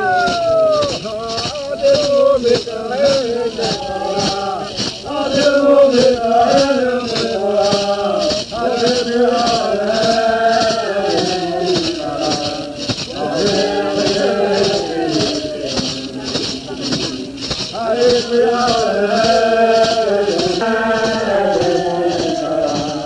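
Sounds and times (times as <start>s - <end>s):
high shaken beat: 0.0s - 23.0s
men chanting together: 0.0s - 23.0s.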